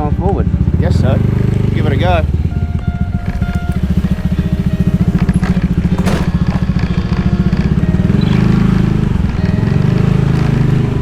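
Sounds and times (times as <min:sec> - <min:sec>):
motorcycle engine pulsing: 0:00.9 - 0:11.0.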